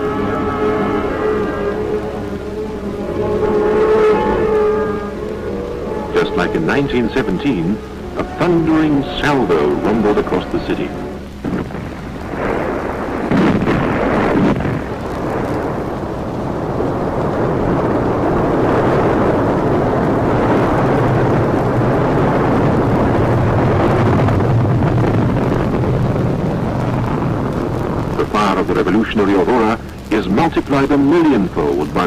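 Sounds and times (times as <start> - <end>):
rocket launch roar: 0.0 - 32.0.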